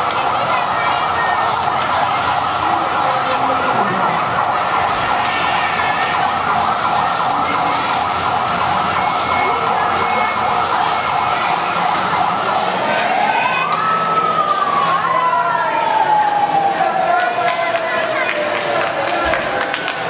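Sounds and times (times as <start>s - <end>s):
electronic siren warbling: 0.0s - 16.8s.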